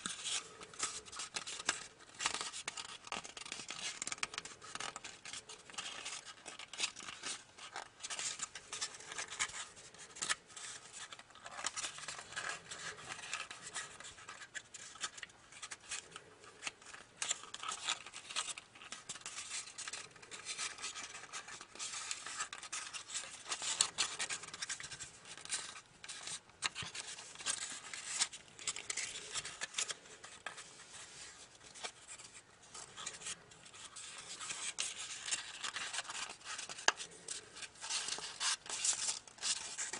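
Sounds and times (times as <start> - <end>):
paper rustling and crackling: 0.0 - 39.9.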